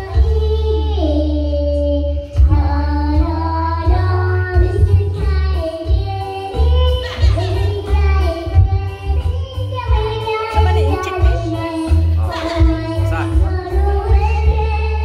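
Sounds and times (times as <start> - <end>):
girl singing into a microphone: 0.0 - 15.0.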